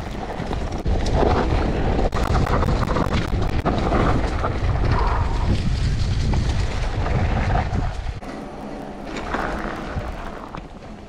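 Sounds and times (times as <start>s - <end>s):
bike clicks and rattles: 0.0s - 11.0s
tyres rolling on gravel: 0.0s - 11.0s
wind rushing over microphone: 0.0s - 11.0s.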